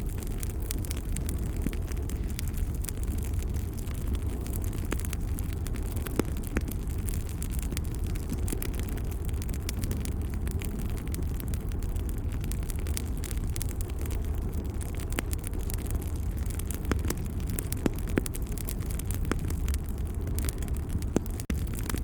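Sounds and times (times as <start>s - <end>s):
low rumble of burning flames: 0.0s - 22.0s
wood fire crackling: 0.0s - 22.0s.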